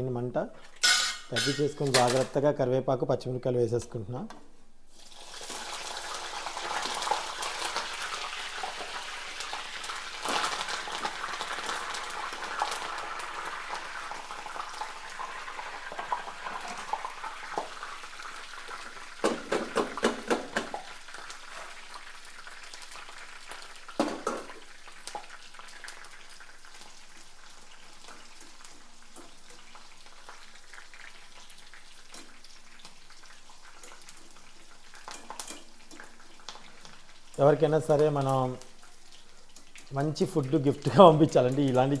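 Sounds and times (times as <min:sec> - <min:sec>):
leaves sizzling in hot oil: 0:00.7 - 0:02.4, 0:04.9 - 0:42.0.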